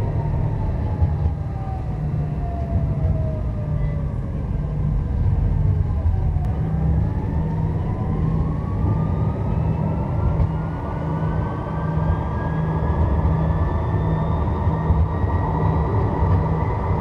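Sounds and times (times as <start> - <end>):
tram traction whine: 0.0 - 17.0
wheels rumbling on rail: 0.0 - 17.0.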